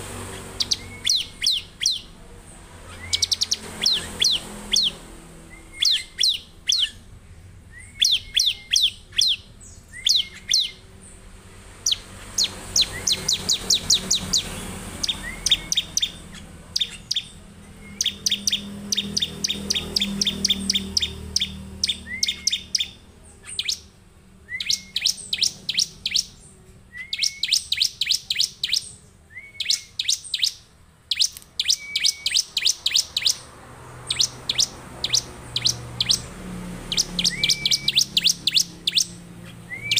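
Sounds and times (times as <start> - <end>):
bird singing high chipping notes: 0.0 - 39.9.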